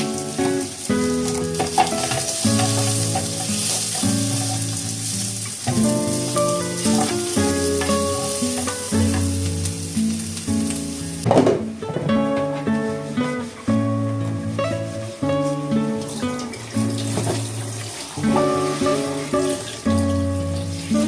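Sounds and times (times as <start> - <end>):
acoustic guitar music: 0.0 - 21.0
food sizzling in a pan: 0.0 - 21.0.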